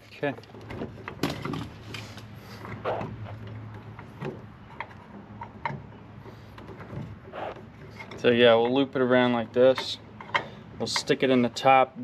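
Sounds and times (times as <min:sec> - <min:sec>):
hand tools clicking and knocking: 0:00.4 - 0:11.3.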